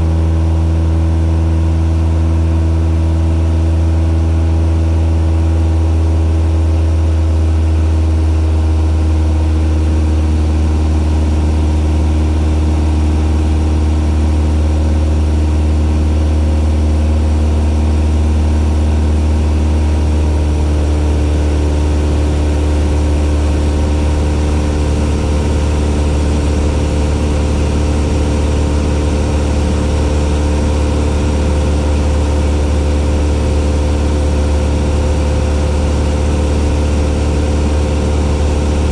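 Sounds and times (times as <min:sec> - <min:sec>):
propeller aircraft engine droning: 0:00.0 - 0:38.9.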